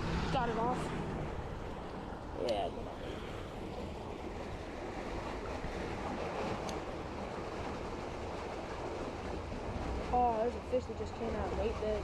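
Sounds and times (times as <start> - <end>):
fast-flowing creek water: 0.0 - 12.0.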